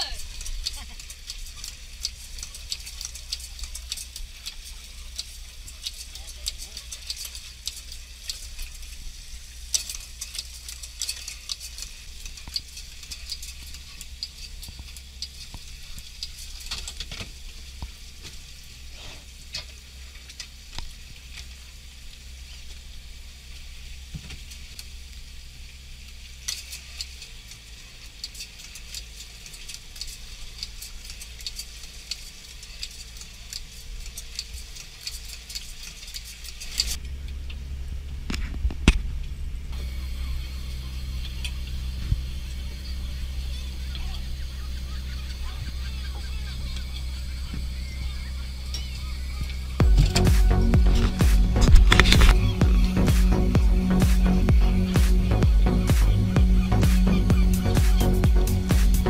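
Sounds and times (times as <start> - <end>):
crackling hiss of small clicks: 0.0 - 53.3
boat engine drone: 0.0 - 59.0.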